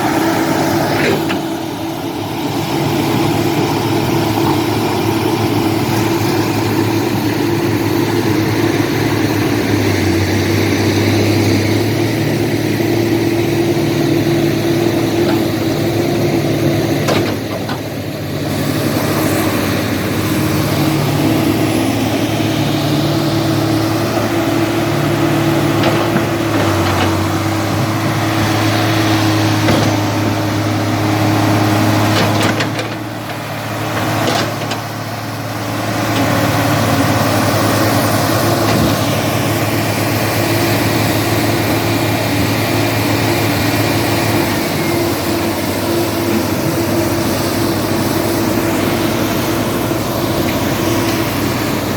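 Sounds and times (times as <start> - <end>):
heavy diesel engines straining: 0.0 - 51.9.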